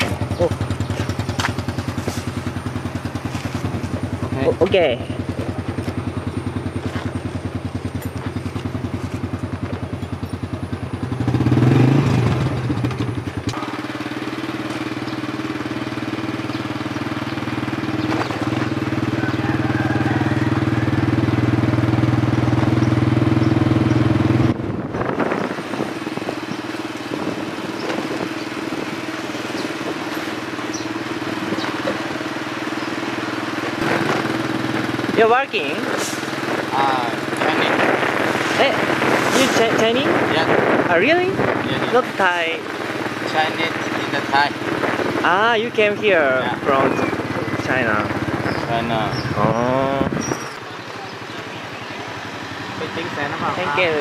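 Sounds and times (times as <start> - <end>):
motorcycle engine: 0.0 - 54.0
road and wind noise: 0.0 - 54.0.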